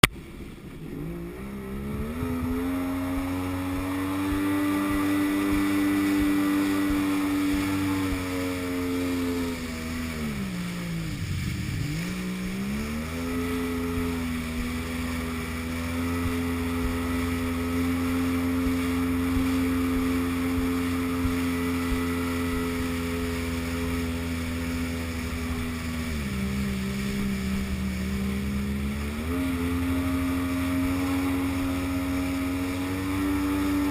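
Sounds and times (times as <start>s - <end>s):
jet ski engine revving: 0.0s - 33.9s.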